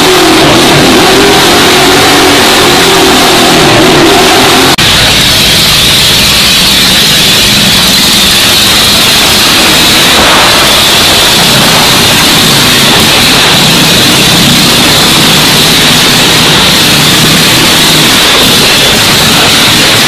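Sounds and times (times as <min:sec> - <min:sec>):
distorted hiss: 0:00.0 - 0:20.0
motorcycle engine running hard: 0:00.0 - 0:20.0.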